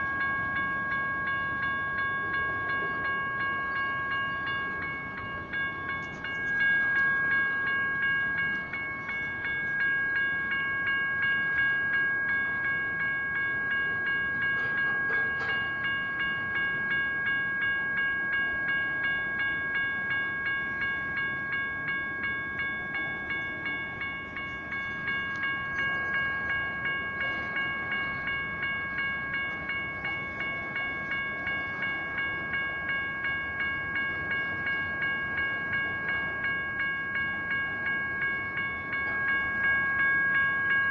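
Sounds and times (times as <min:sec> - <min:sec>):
crossing bell ringing: 0:00.0 - 0:40.9
passing train: 0:00.0 - 0:40.9.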